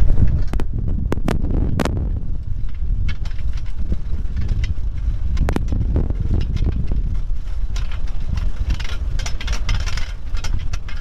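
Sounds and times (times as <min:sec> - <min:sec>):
rail car rumbling: 0:00.0 - 0:11.0
wheels clicking on track: 0:00.0 - 0:11.0.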